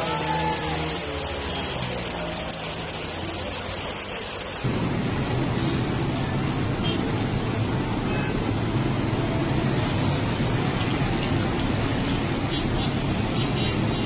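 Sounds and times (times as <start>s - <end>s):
floodwater rushing: 0.0s - 14.0s
heavy rain: 0.0s - 14.0s.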